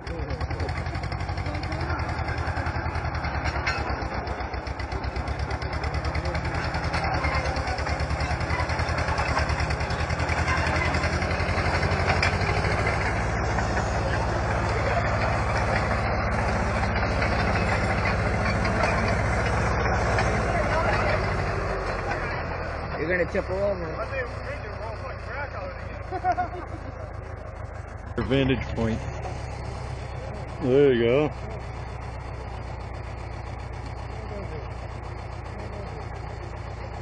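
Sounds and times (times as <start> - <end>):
dozer engine running: 0.0 - 37.0.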